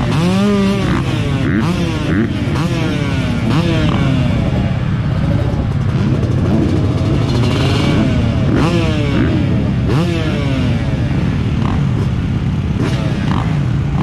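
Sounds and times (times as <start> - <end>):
motorbike engines idling: 0.0 - 14.0
motorbike engines revving: 0.0 - 14.0.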